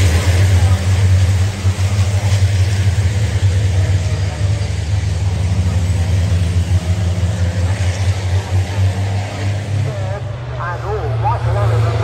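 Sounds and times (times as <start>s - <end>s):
diesel truck engines droning: 0.0s - 12.0s.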